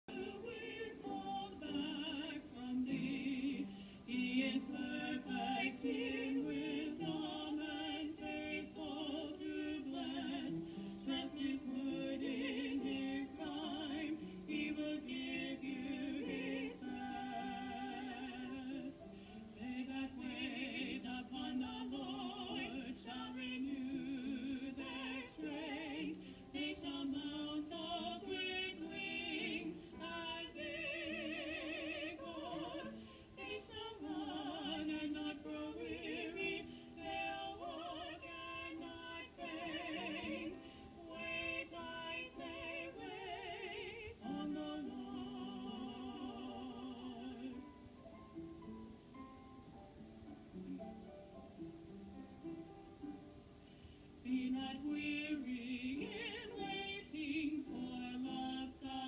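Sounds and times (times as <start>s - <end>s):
women singing operatic duet: 0.1s - 47.8s, 54.2s - 59.0s.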